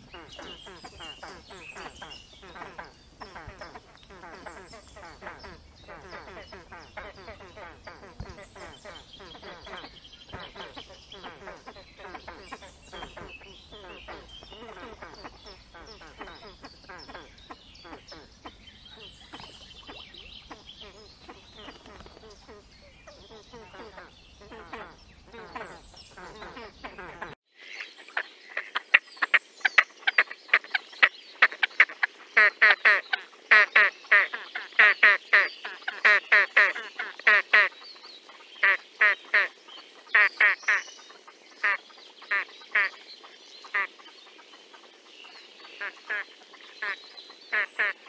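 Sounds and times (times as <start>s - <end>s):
grebes calling: 0.0s - 48.0s
low background noise: 0.0s - 48.0s.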